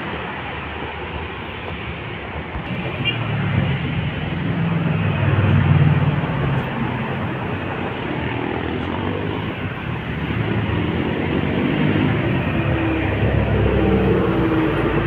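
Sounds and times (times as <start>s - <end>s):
bus passing: 0.0s - 15.0s
low engine rumble of traffic: 0.0s - 15.0s
motorcycles passing: 1.9s - 15.0s.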